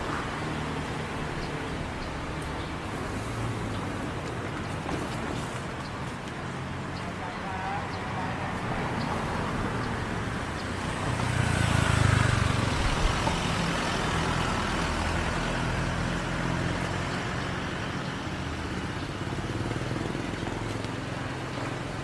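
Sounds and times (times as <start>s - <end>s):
road hum: 0.0s - 22.0s
vehicle engines passing: 0.0s - 22.0s.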